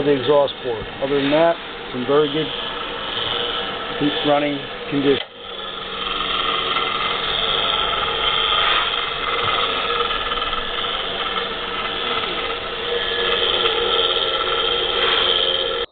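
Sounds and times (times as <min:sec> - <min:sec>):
disc sander motor humming: 0:00.0 - 0:15.9.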